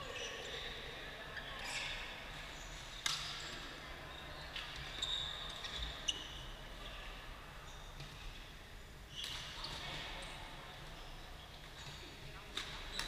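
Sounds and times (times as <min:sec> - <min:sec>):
shoes squeaking on court floor: 0:01.4 - 0:08.3, 0:09.1 - 0:13.0.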